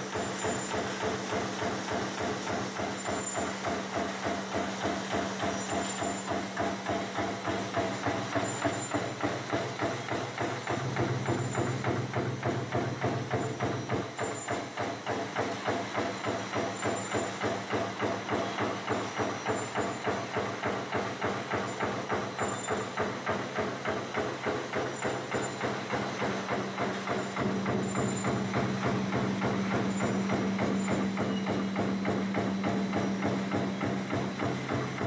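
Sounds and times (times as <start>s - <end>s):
fast mechanical clatter: 0.0s - 35.0s.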